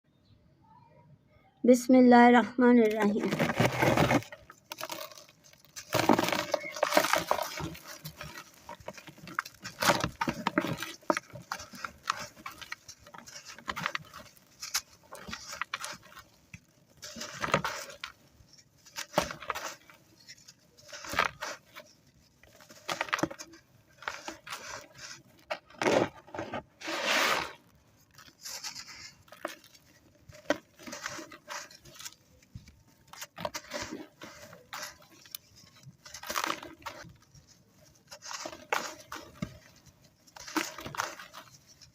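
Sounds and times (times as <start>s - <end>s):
dry sand crumbling and crunching: 1.7s - 41.9s.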